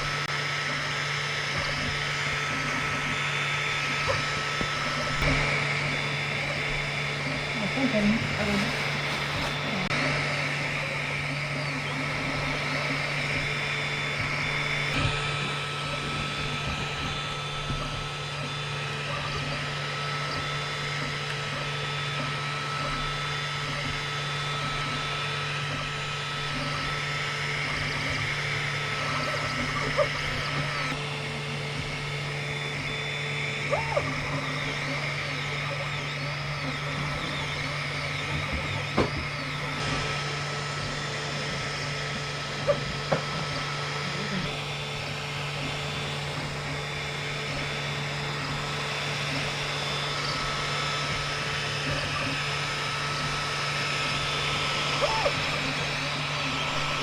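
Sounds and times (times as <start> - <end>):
printer fan hum: 0.0 - 57.0
stepper motors whining: 0.0 - 57.0.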